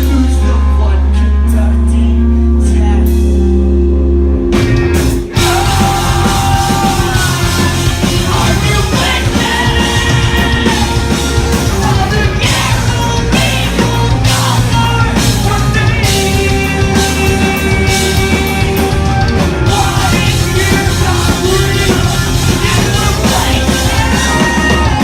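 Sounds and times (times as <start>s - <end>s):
person singing lead vocals: 0.0s - 4.0s, 4.6s - 25.0s
bass guitar: 0.0s - 25.0s
distorted electric guitars: 0.0s - 25.0s
pounding drums: 4.6s - 25.0s.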